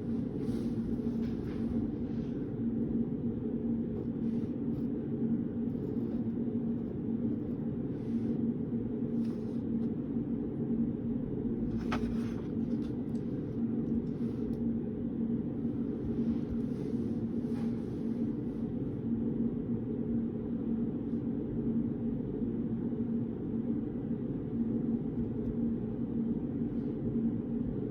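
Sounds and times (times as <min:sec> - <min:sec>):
low room hum: 0:00.0 - 0:27.9.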